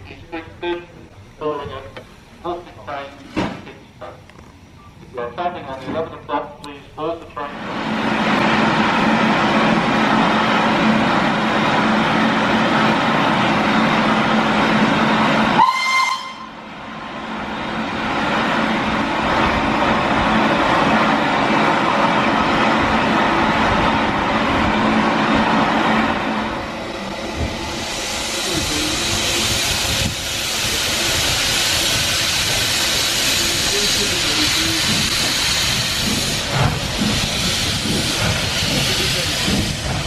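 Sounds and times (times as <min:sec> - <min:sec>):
steam locomotive hiss and rumble: 0:00.0 - 0:40.0.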